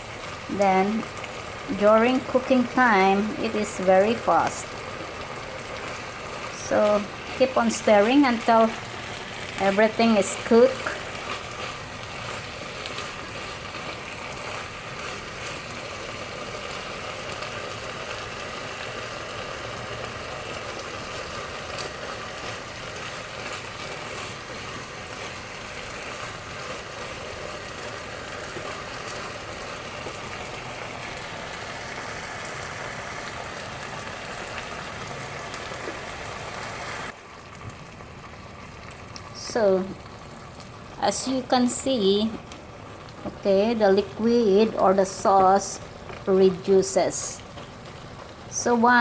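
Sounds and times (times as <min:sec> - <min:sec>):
chicken and sauce sizzling in a pan: 0:00.0 - 0:49.0.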